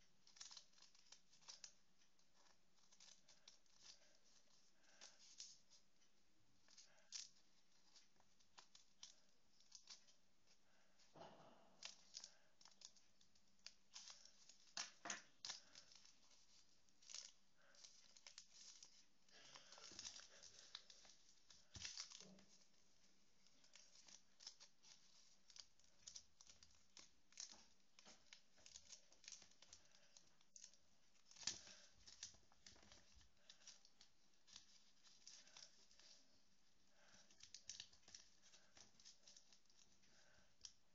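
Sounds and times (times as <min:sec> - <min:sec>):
paper rustling and crinkling: 0:00.0 - 0:40.9.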